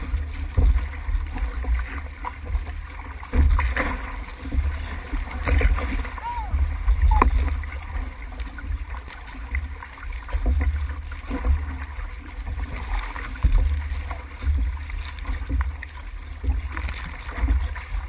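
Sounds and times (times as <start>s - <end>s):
water splashing along canoe hull: 0.0s - 18.0s.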